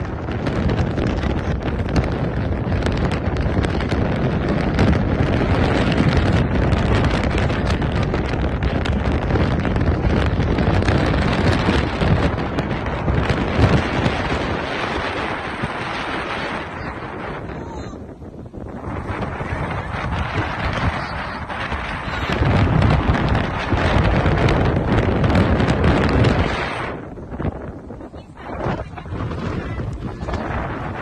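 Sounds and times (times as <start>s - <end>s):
strong gusting wind on microphone: 0.0s - 31.0s.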